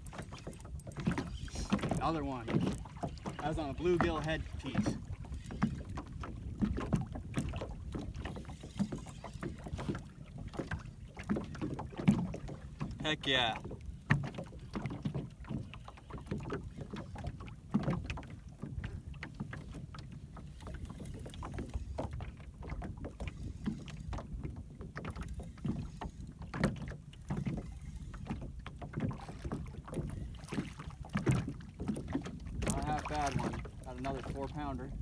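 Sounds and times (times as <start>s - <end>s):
water slapping boat hull: 0.0s - 35.0s.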